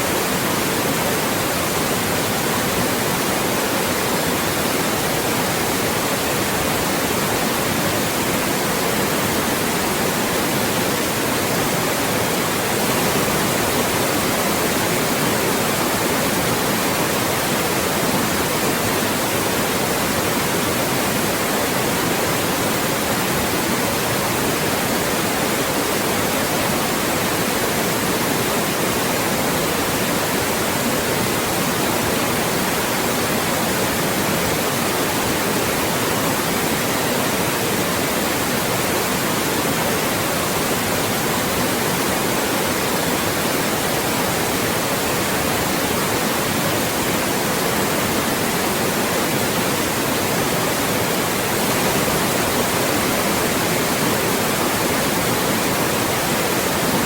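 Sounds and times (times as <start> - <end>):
synthetic white noise hiss: 0.0 - 57.0.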